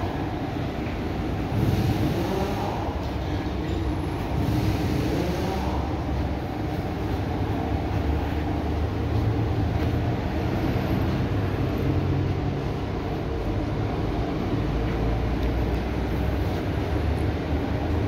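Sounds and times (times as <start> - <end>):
loud mechanical rumble: 0.0 - 18.0.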